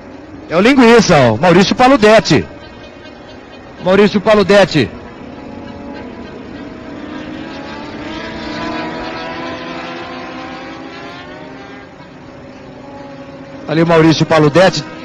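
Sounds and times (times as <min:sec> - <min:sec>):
motorcycle engine racing: 0:00.0 - 0:15.0.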